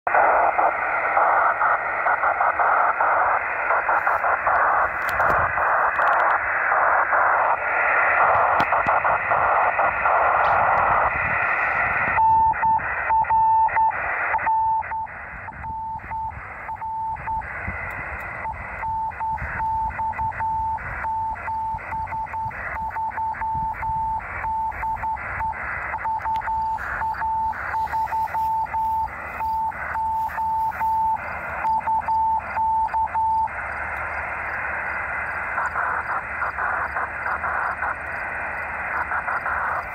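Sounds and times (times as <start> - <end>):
morse code tone: 0.1 - 39.9
radio receiver hiss: 0.1 - 39.9.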